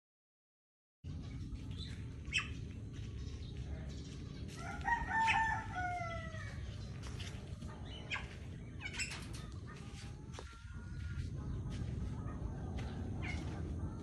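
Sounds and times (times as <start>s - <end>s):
low outdoor rumble: 1.0s - 14.0s.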